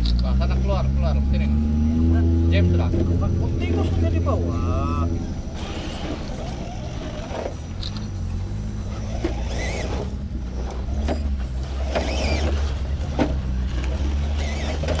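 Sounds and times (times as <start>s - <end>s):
electric motors whining: 2.8s - 15.0s.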